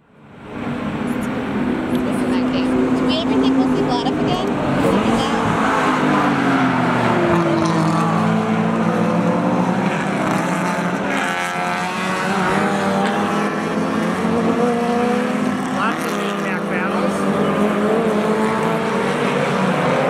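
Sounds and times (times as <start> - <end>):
race car engines accelerating: 0.0 - 20.0.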